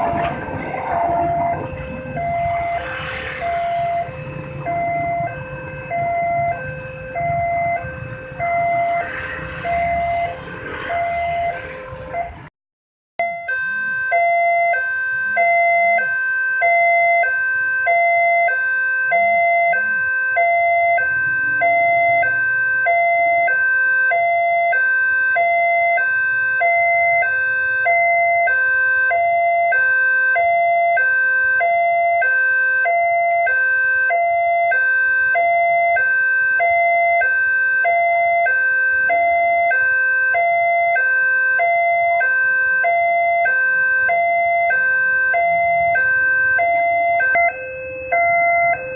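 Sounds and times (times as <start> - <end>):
level crossing two-tone alarm: 0.0 - 12.4, 13.2 - 48.9.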